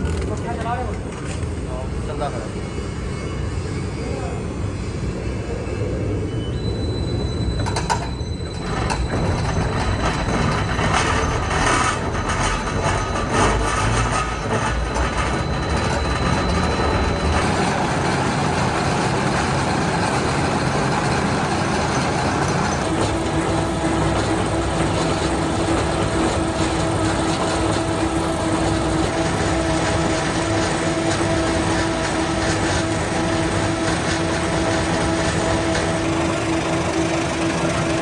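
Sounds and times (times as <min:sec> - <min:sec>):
heavy machinery rumbling: 0:00.0 - 0:02.4, 0:06.9 - 0:38.0.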